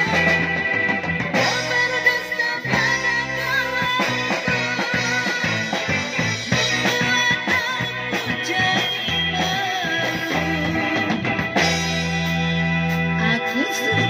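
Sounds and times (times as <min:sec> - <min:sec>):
woman singing into a microphone: 0:00.0 - 0:00.6, 0:01.4 - 0:11.4, 0:13.2 - 0:14.0
drum kit: 0:00.0 - 0:14.0
electric bass guitar: 0:00.0 - 0:14.0
electronic keyboard: 0:00.0 - 0:14.0.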